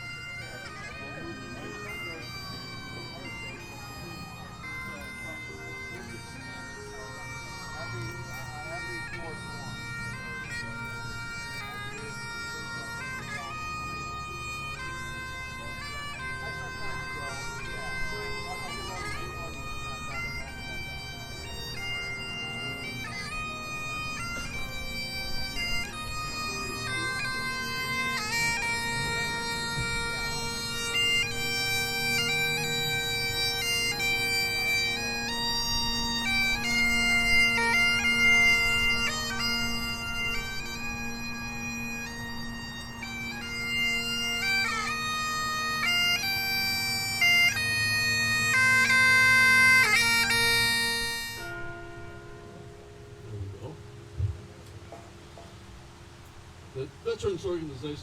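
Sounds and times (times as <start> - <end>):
bagpipes playing a tune: 0.0 - 58.0.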